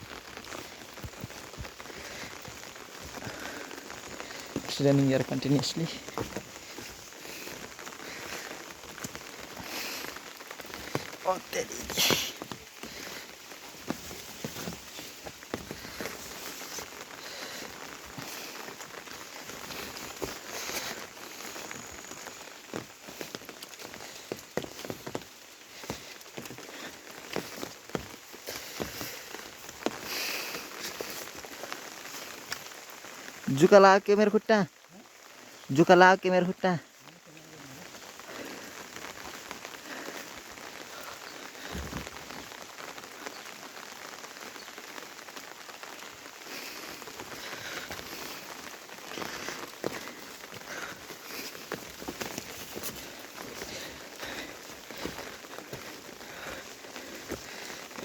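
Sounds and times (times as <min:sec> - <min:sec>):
raindrops tapping close by: 0:00.0 - 0:58.0
steady rain: 0:00.0 - 0:58.0.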